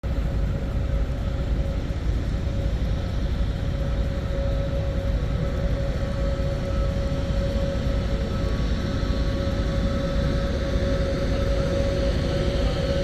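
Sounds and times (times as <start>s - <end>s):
jet engines idling: 0.1s - 13.0s.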